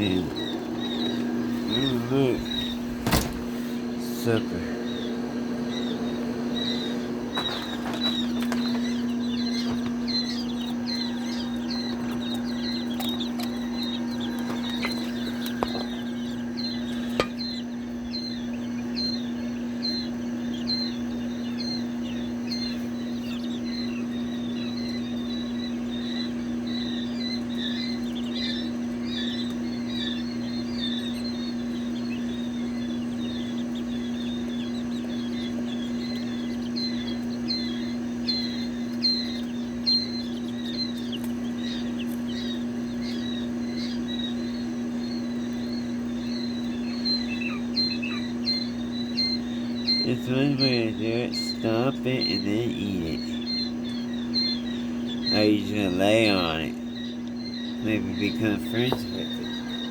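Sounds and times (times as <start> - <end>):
chicks peeping: 0.0 - 59.9
steady low hum: 0.0 - 59.9.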